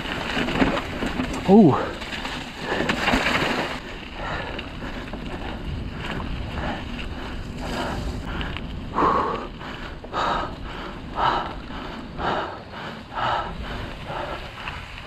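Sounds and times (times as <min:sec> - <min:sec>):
bike tyres rolling on dirt: 0:00.0 - 0:15.0
wind rushing over microphone: 0:00.0 - 0:15.0.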